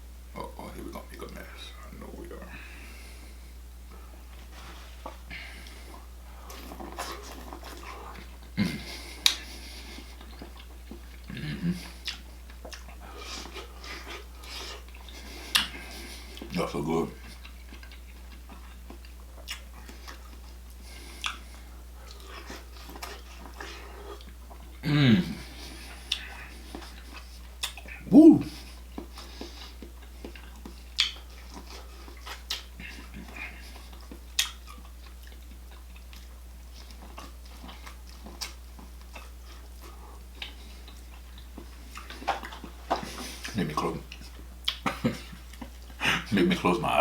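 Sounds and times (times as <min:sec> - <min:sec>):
low electrical hum: 0:00.0 - 0:47.0
chewing and wet mouth sounds: 0:00.4 - 0:47.0.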